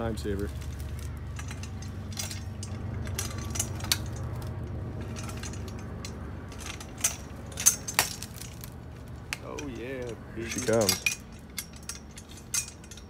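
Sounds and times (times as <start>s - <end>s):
steady low hum: 0.0s - 13.0s
metal chain clinking: 0.2s - 13.0s.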